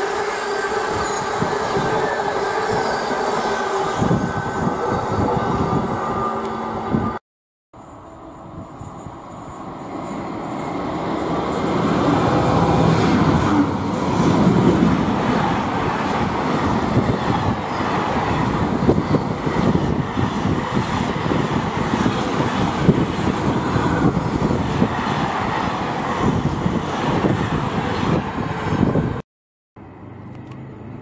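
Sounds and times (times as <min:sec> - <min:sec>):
diesel locomotive engine: 0:00.0 - 0:07.2, 0:07.8 - 0:29.2.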